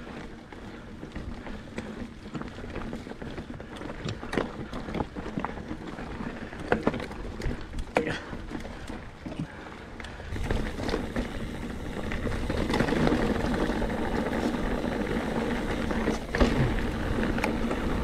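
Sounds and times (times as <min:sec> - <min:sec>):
bike rattling over rocks: 0:00.0 - 0:18.0
bike tyre rumble: 0:00.0 - 0:18.0.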